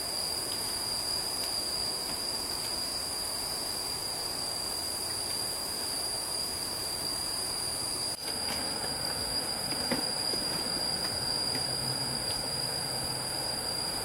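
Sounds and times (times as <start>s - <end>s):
insect chorus whining: 0.0s - 14.0s
stream water running: 0.0s - 14.0s.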